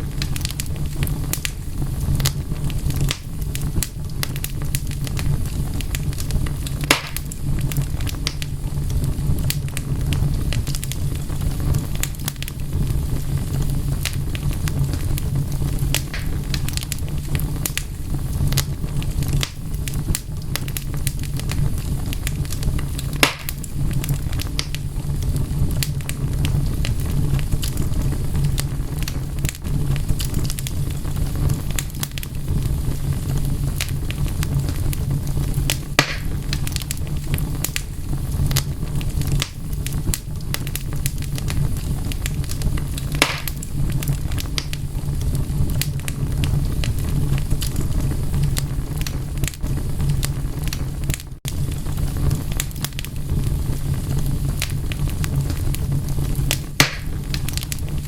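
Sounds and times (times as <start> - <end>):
low rumble: 0.0 - 58.0
wood fire crackling: 0.0 - 58.0.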